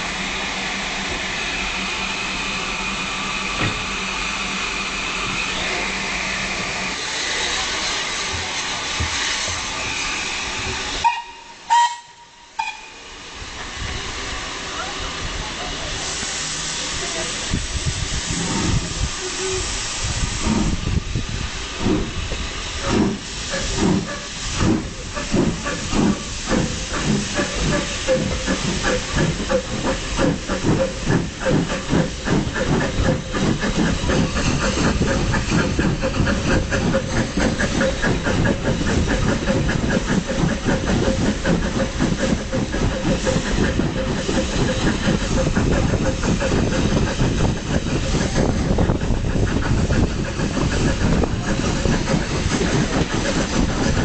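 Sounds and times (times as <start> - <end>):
steam train hissing and humming: 0.0 - 54.0.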